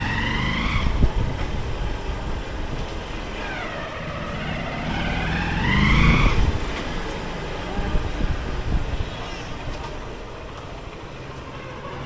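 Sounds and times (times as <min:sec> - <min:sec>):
engine whine: 0:00.0 - 0:12.0
motorcycle engine and road rumble: 0:00.0 - 0:12.0.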